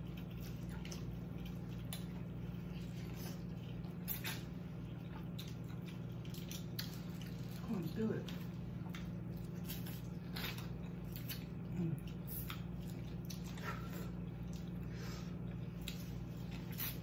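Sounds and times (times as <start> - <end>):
steady low hum: 0.0 - 17.0
wet chewing of corn: 0.0 - 17.0.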